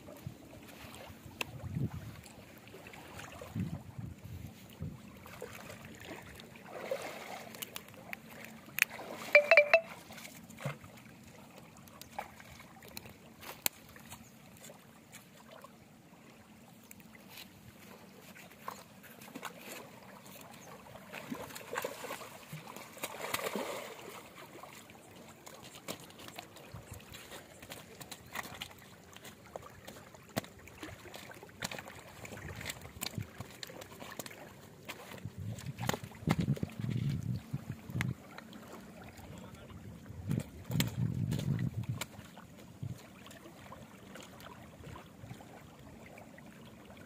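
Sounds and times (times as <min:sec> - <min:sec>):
water splashing: 0:00.6 - 0:03.9, 0:04.6 - 0:16.4, 0:17.1 - 0:36.9, 0:38.2 - 0:47.0.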